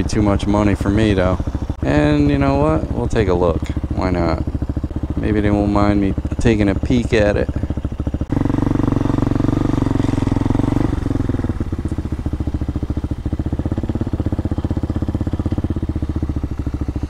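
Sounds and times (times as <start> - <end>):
motorcycle engine running slowly: 0.0 - 17.0.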